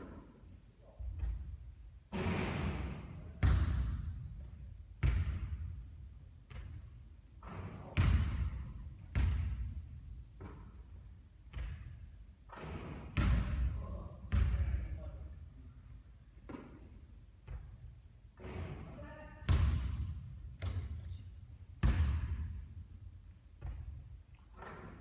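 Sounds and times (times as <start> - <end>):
basketballs bouncing on a court: 1.0 - 15.3, 16.4 - 25.0.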